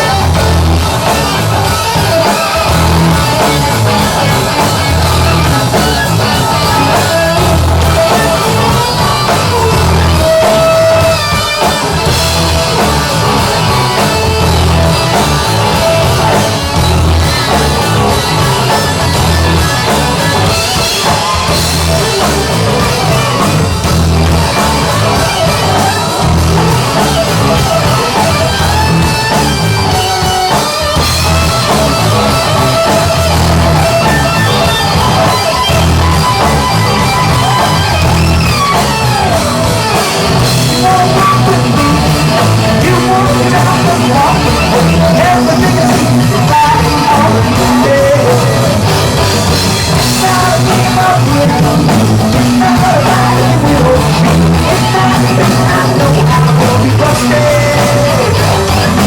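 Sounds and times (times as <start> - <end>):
bass guitar: 0.0 - 59.0
drum kit: 0.0 - 59.0
electric guitar lines: 0.0 - 59.0.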